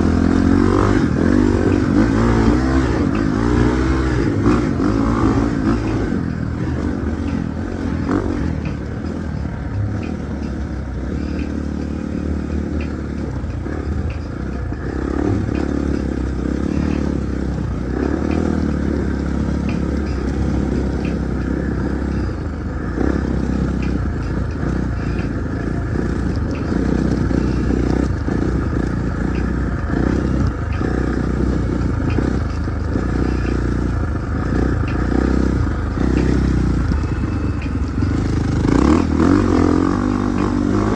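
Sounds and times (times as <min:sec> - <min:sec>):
motorcycle engine running: 0:00.0 - 0:40.9
scattered clatter: 0:00.0 - 0:40.9.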